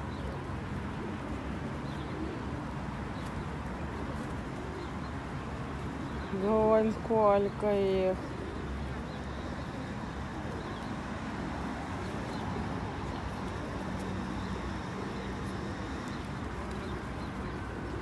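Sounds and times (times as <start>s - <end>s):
outdoor background noise: 0.0s - 18.0s
pigeons cooing: 0.0s - 18.0s.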